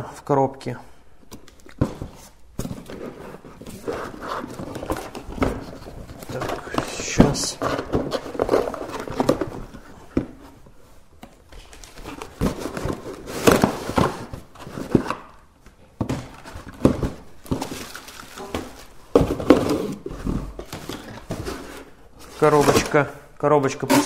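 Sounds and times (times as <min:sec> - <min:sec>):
cardboard rustling and crinkling: 0:01.6 - 0:23.1.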